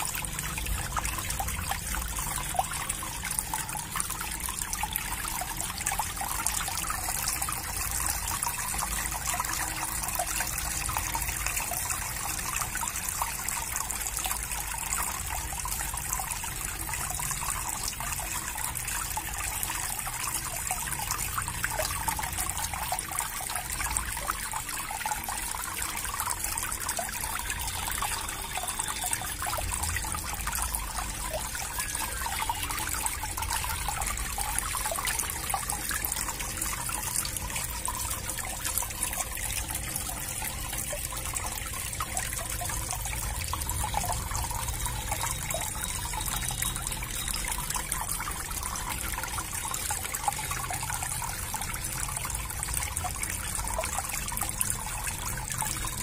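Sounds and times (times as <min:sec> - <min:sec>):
fountain water trickling and splashing: 0:00.0 - 0:56.0.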